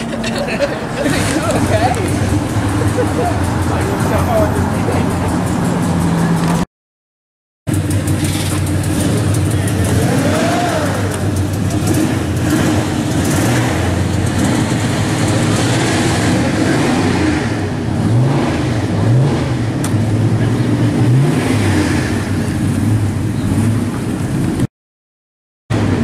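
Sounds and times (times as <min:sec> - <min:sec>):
pickup truck engine running: 0:00.0 - 0:06.6, 0:07.7 - 0:24.6.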